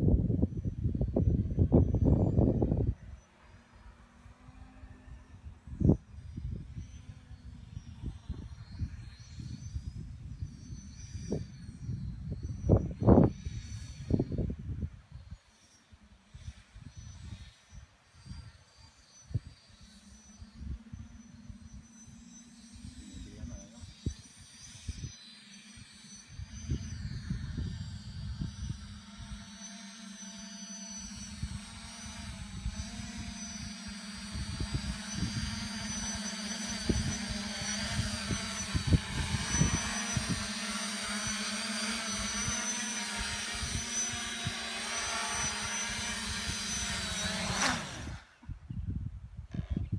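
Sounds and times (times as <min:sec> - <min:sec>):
wind rumbling on microphone: 0:00.0 - 0:29.8, 0:30.9 - 0:49.9
quadcopter motors and propellers whining: 0:00.0 - 0:49.9.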